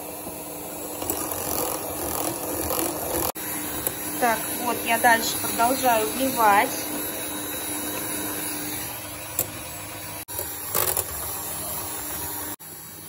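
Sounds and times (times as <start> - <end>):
electric mixer whirring: 0.0 - 13.0.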